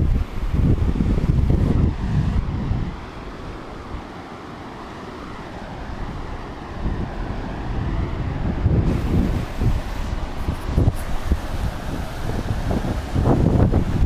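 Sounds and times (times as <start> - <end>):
wind buffeting microphone: 0.0 - 4.1, 5.3 - 14.0
river rapids rushing over rocks: 0.0 - 14.0.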